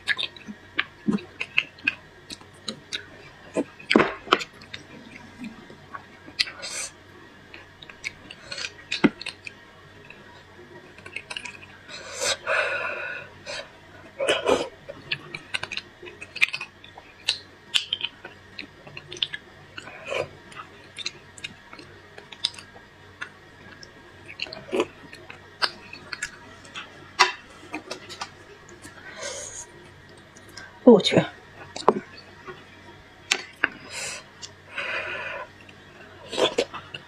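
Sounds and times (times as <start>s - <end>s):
chewing: 0.0s - 12.9s, 13.5s - 30.8s, 31.6s - 37.0s.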